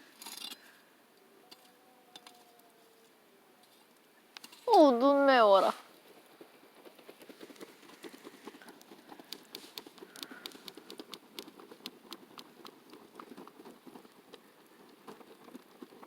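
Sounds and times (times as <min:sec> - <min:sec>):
small fire crackling: 0:00.0 - 0:16.0.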